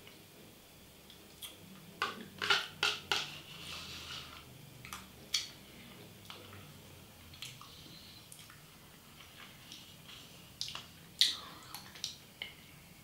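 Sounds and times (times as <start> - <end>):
soft eating sounds: 1.0 - 2.5, 3.3 - 13.0.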